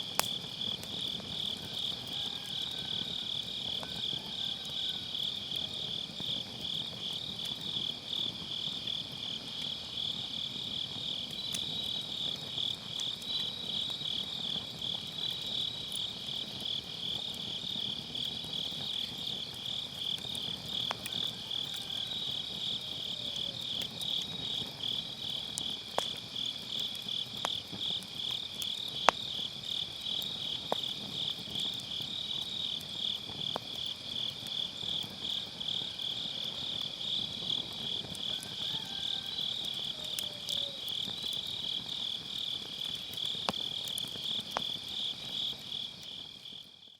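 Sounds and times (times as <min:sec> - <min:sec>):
crickets chirping: 0:00.0 - 0:46.9
wood fire crackling and popping: 0:00.0 - 0:46.9.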